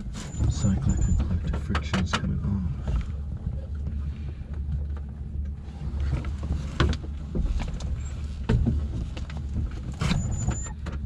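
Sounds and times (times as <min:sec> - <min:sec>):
low steady rumble: 0:00.0 - 0:11.0
cockpit controls clicking and knocking: 0:00.4 - 0:11.0.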